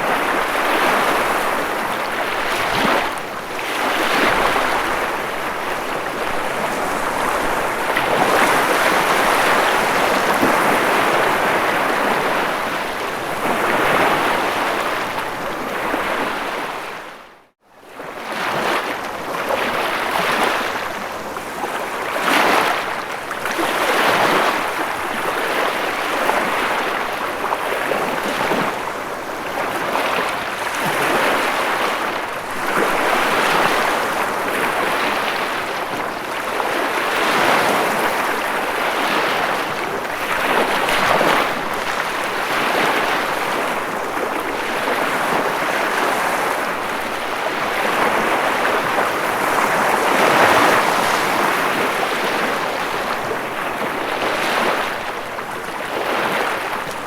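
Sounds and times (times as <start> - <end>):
ocean waves breaking: 0.0 - 17.1, 18.1 - 57.0.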